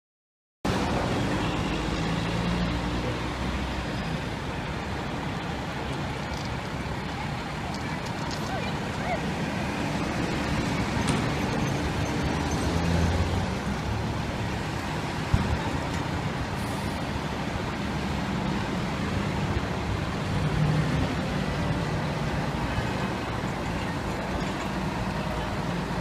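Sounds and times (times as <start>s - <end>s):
street traffic: 0.6s - 26.0s.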